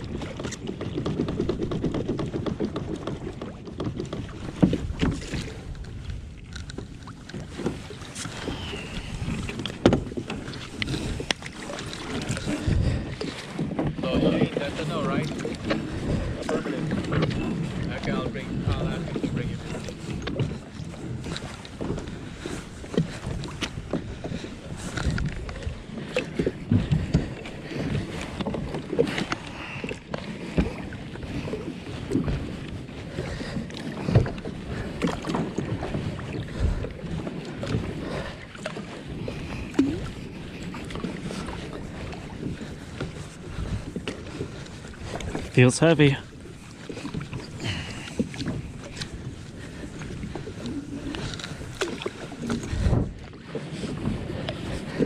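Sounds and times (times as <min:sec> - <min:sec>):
water splashing and lapping: 0:00.0 - 0:55.0.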